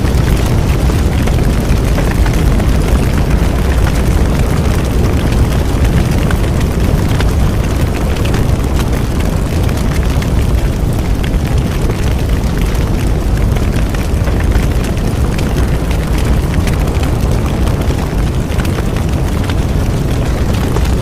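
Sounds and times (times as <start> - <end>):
bonfire flames roaring: 0.0 - 21.0
burning wood crackling: 0.0 - 21.0.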